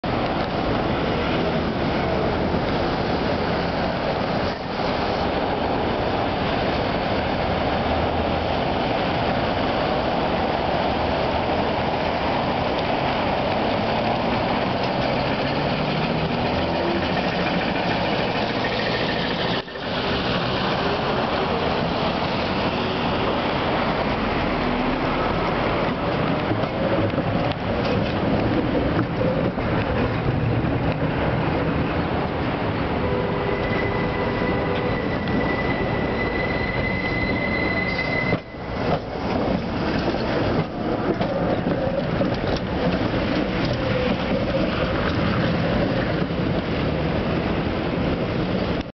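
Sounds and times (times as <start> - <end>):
city street traffic: 0.0 - 48.9.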